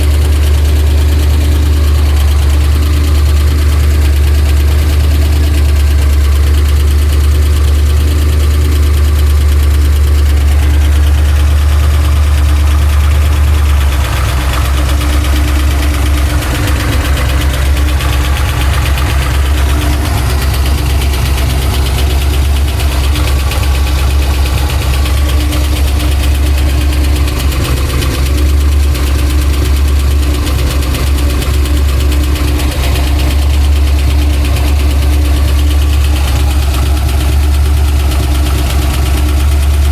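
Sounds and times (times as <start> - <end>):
car engine idling: 0.0 - 39.9
deep rhythmic engine knock: 0.0 - 39.9.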